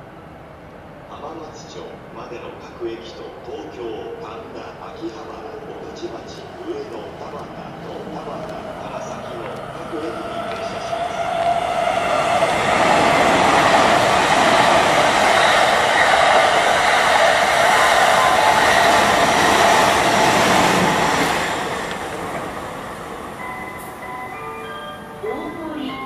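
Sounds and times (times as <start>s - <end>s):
commuter train arriving: 0.0s - 26.0s
train wheels rumbling on rails: 3.0s - 24.2s.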